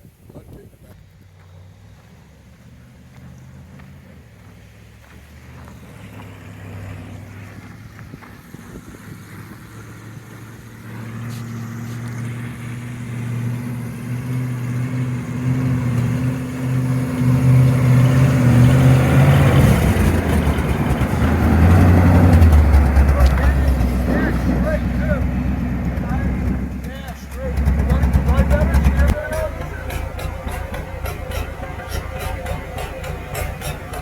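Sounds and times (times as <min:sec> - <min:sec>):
monster truck engine running: 0:00.4 - 0:34.0.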